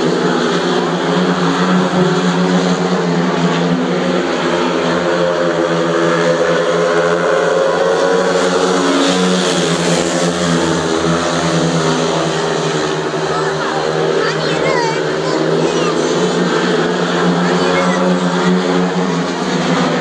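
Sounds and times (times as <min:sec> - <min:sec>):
motorcycles racing: 0:00.0 - 0:20.0.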